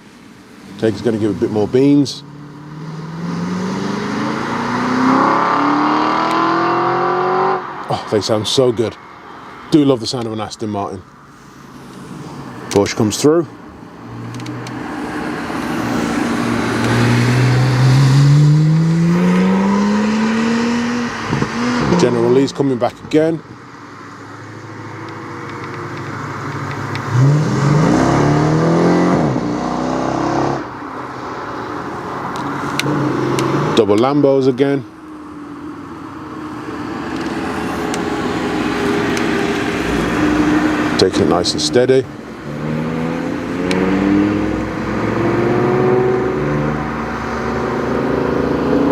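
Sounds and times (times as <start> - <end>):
sports car engine accelerating: 0.6 - 8.3, 14.0 - 34.2, 35.0 - 48.9.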